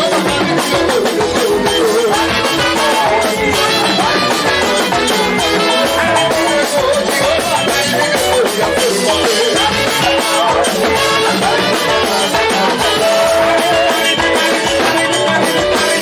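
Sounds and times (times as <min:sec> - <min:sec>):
drum kit beat: 0:00.0 - 0:16.0
wavering lead melody: 0:00.0 - 0:16.0.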